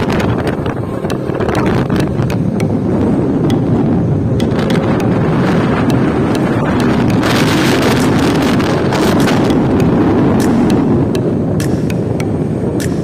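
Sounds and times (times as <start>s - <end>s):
vehicle road rumble: 0.0s - 13.0s
wind buffeting microphone: 0.0s - 13.0s.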